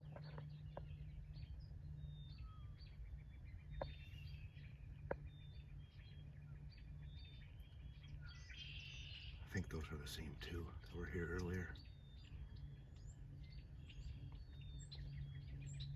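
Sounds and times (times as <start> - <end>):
songbirds chirping: 0.0 - 15.9
steady low rumble: 0.0 - 15.9.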